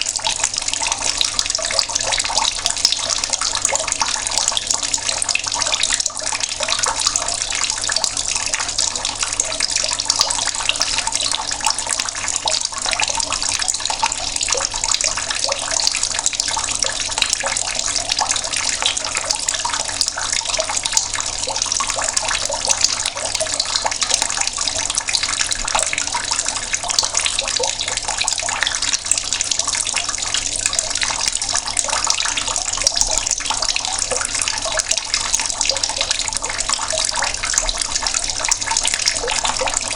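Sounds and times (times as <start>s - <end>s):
tap water running and splashing: 0.0s - 39.9s.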